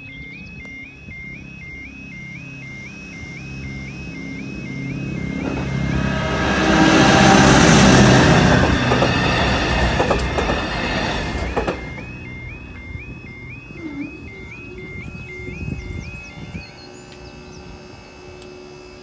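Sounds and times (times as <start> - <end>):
two-tone crossing alarm: 0.0 - 19.0
diesel train passing: 1.4 - 18.4.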